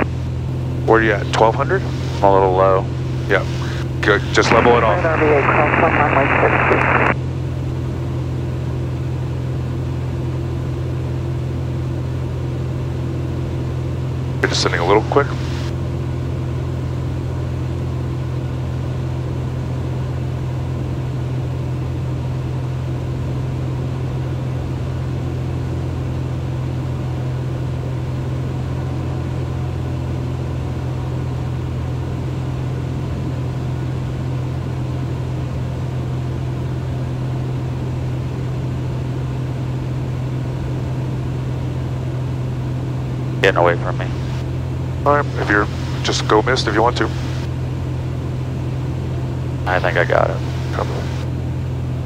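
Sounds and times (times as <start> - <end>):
airplane propeller engine drone: 0.0 - 52.0.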